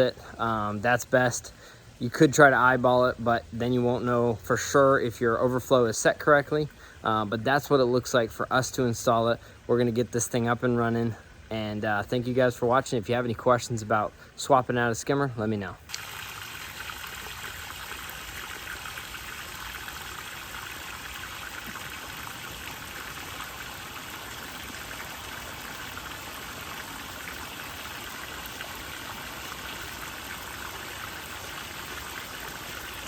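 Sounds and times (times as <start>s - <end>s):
water rushing and trickling: 0.0s - 15.2s, 15.8s - 33.0s.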